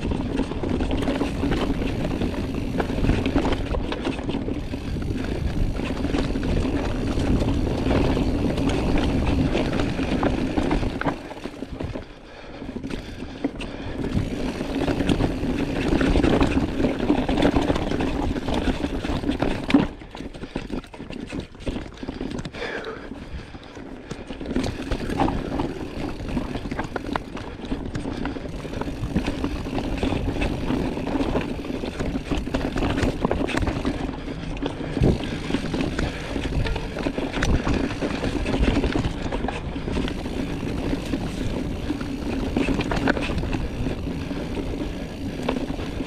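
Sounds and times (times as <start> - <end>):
bike rattling over rough ground: 0.0 - 46.0
bike tyres rumbling on dirt: 0.0 - 46.0.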